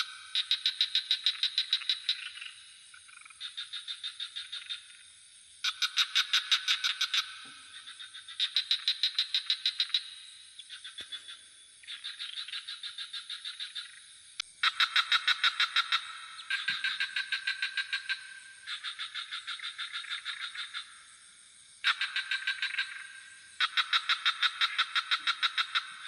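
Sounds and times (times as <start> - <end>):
frogs calling in pulsed trills: 0.0 - 26.0
high-pitched insect drone: 0.0 - 26.0.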